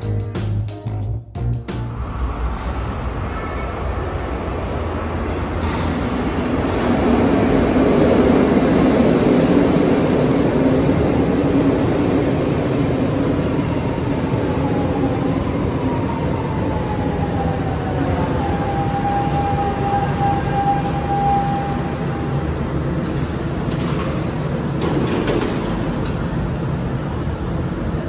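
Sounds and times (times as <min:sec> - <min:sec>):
train wheels rumbling on rail: 0:01.9 - 0:28.0.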